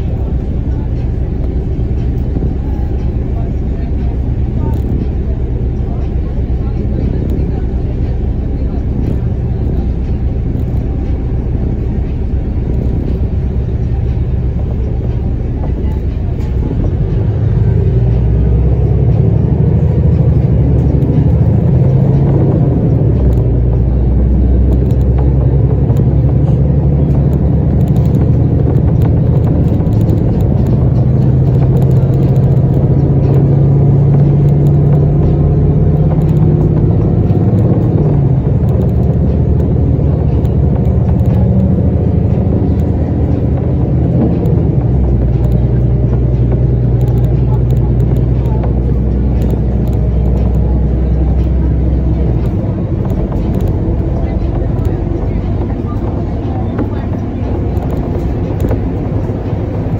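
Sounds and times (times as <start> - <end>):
vehicle road and engine rumble: 0.0 - 59.9.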